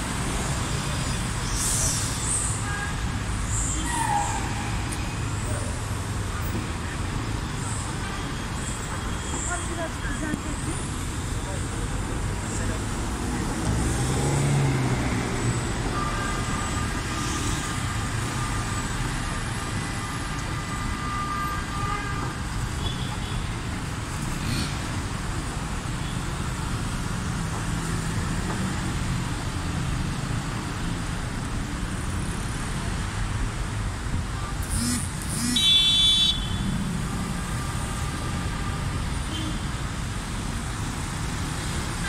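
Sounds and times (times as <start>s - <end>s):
city traffic rushing: 0.0s - 42.0s.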